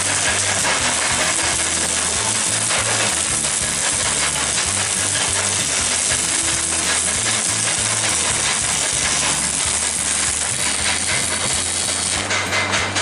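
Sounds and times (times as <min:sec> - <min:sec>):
welding arc crackling: 0:00.0 - 0:13.0
welding machine hum: 0:00.0 - 0:13.0.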